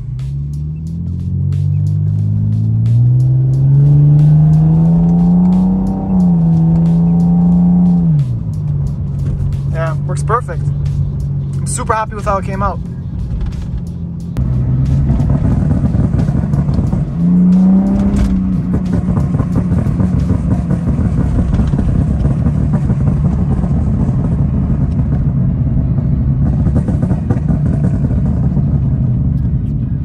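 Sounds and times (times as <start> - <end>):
car engine revving and droning: 0.0 - 30.0.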